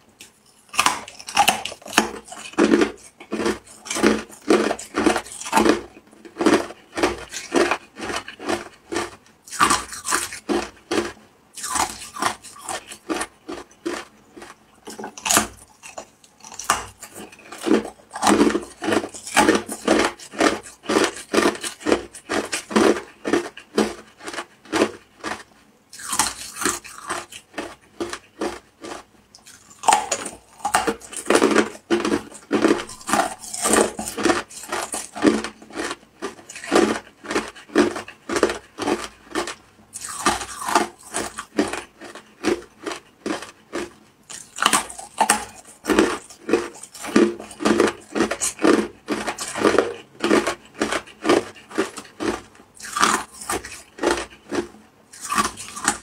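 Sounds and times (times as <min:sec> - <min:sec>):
ice crunching while chewed: 0:00.2 - 0:56.0.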